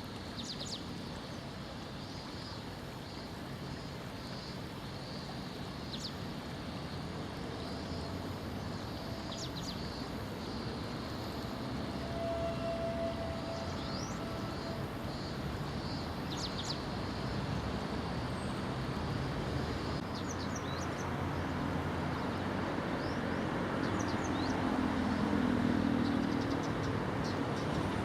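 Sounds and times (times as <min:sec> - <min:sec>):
outdoor background rush: 0:00.0 - 0:28.0.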